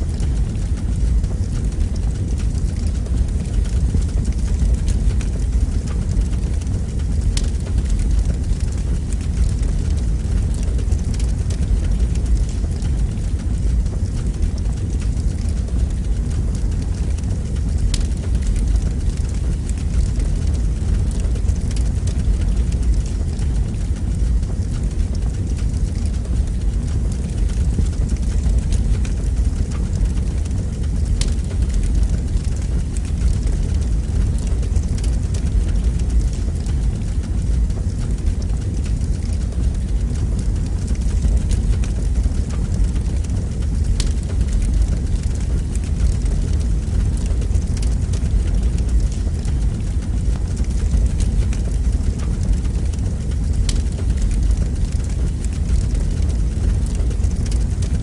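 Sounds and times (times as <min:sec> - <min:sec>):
fire crackles: 0:00.0 - 0:58.0
fire rumbling: 0:00.0 - 0:58.0.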